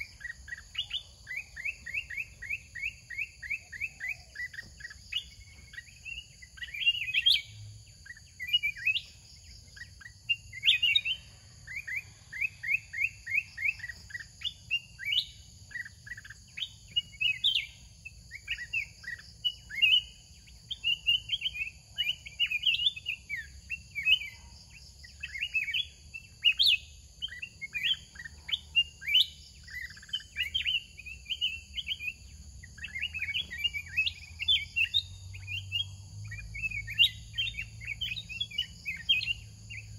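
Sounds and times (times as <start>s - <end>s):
bulbuls chirping: 0.0s - 39.9s.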